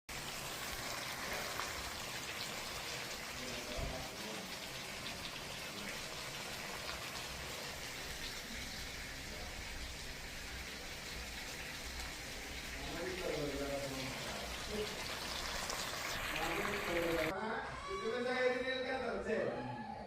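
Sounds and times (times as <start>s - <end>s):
food frying in hot oil: 0.1s - 17.3s.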